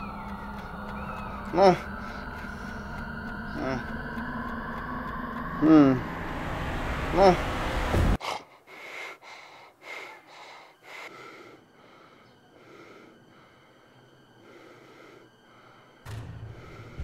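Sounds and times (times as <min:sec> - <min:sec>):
person breathing noisily: 0:00.0 - 0:06.5, 0:08.2 - 0:17.0.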